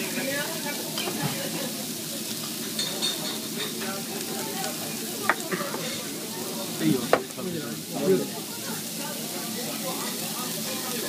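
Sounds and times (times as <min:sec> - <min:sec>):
meat sizzling on a grill: 0:00.0 - 0:11.0.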